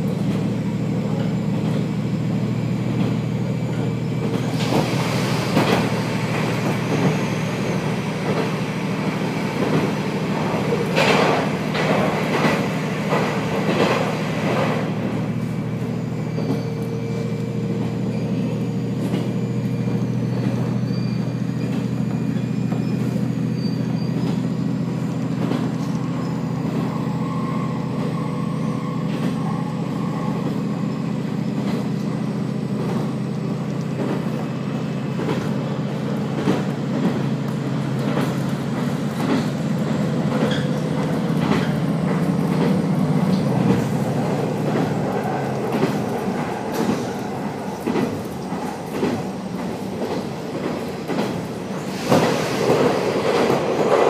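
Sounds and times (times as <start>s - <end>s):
train clattering: 0.0s - 27.2s, 29.0s - 54.0s
train wheels rumbling on rails: 0.0s - 54.0s.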